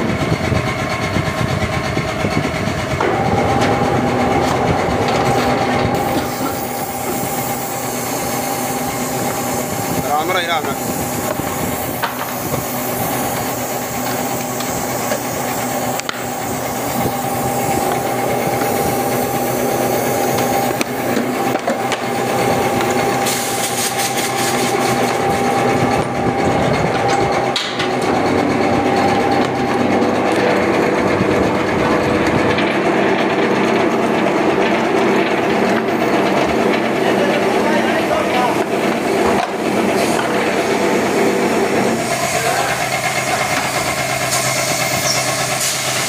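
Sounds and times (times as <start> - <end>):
machinery drone with whine: 0.0 - 46.0.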